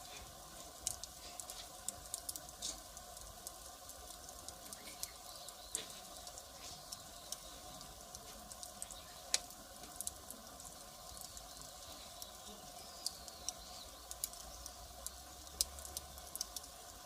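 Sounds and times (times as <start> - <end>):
firewood crackling: 0.0 - 17.0.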